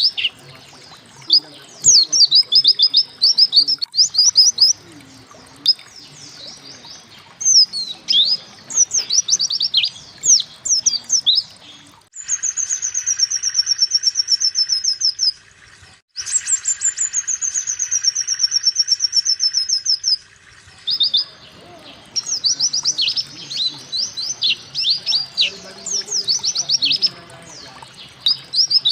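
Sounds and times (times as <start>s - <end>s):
fast bird trills: 0.0s - 15.4s, 16.2s - 28.9s
high sweeping bird chirps: 0.0s - 15.4s, 16.2s - 28.9s.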